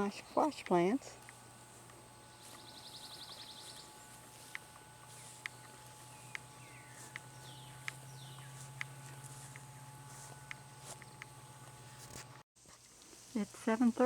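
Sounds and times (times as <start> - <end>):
birds singing and calling: 0.0 - 12.0.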